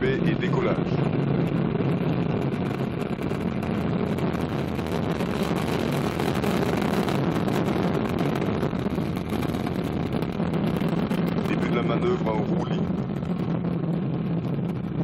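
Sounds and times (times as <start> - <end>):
rocket engines deep rumble: 0.0 - 15.0.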